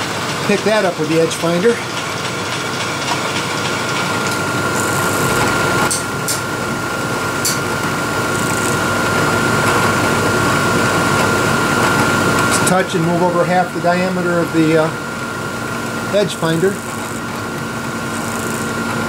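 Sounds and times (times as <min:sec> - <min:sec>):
motor hum: 0:00.0 - 0:19.0
milling spindle high whine: 0:00.3 - 0:19.0.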